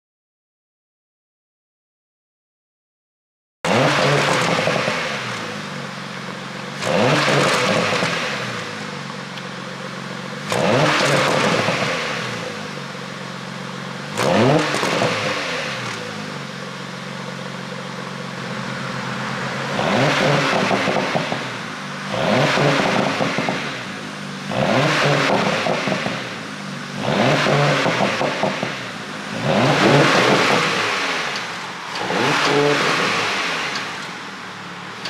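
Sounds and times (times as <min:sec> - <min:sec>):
car engine revving: 0:03.7 - 0:35.0.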